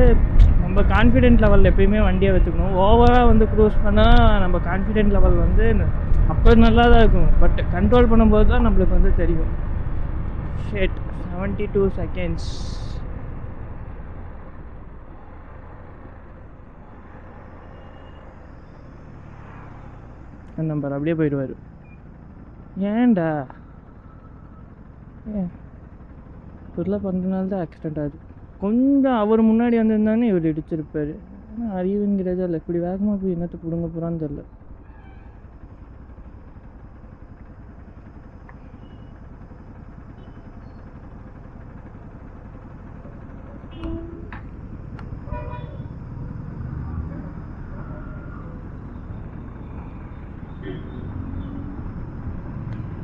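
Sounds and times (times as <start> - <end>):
low rumble of road traffic: 0.0 - 53.0
motorcycle engine cruising: 0.0 - 53.0.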